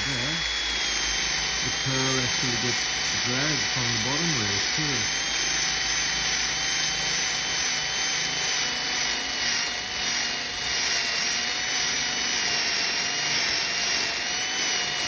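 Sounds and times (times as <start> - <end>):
power sander whining: 0.0 - 15.0.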